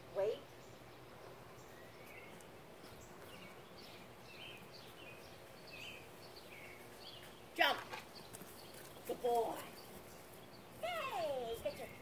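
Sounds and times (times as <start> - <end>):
faint birdsong chirps: 0.0 - 12.0.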